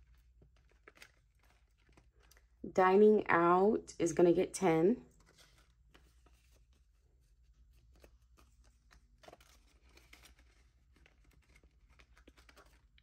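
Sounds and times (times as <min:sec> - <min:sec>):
paper bills rustling: 0:00.0 - 0:02.6, 0:05.1 - 0:13.0.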